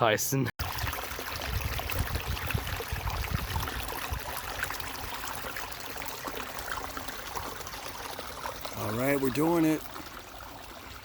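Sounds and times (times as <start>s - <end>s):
stream water babbling: 0.0s - 11.0s.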